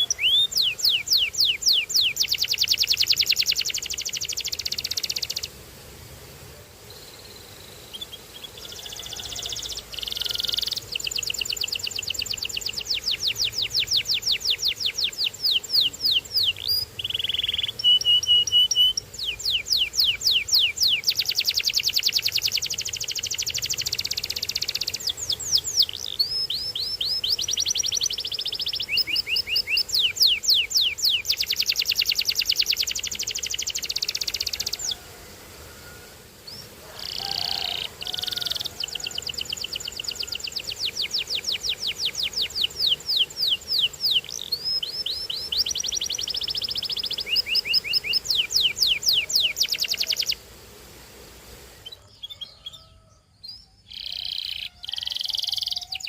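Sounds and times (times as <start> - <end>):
canary singing trills: 0.0 - 5.6, 6.9 - 35.0, 36.4 - 50.4, 51.7 - 56.0.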